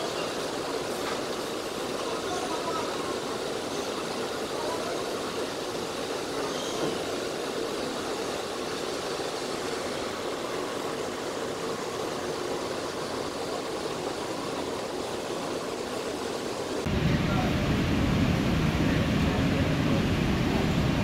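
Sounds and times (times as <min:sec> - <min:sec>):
distant jet engines humming: 0:00.0 - 0:21.0.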